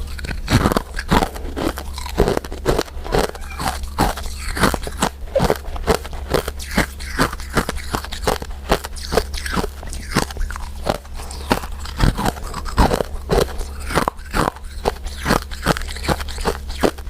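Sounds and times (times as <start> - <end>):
crunchy chewing of mint candies: 0.0 - 17.0
steady low hum: 0.0 - 17.0.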